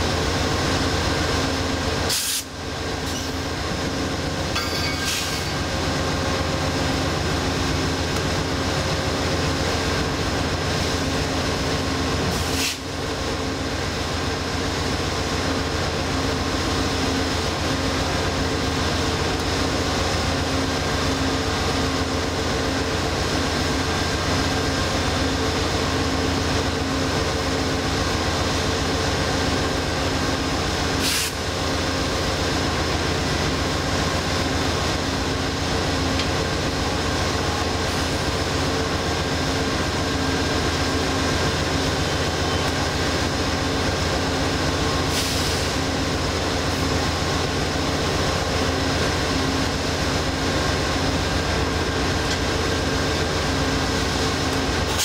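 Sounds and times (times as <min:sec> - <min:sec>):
diesel locomotive idling: 0:00.0 - 0:55.0.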